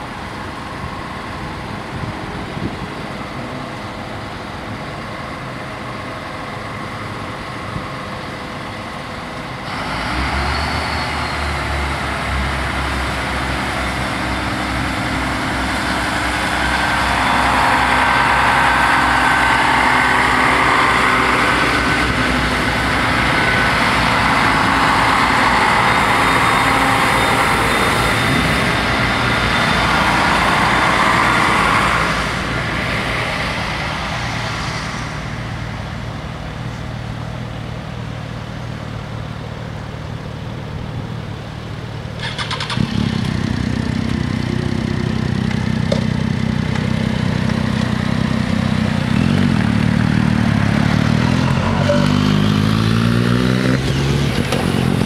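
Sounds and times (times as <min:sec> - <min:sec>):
diesel railcar passing: 0:00.0 - 0:55.0.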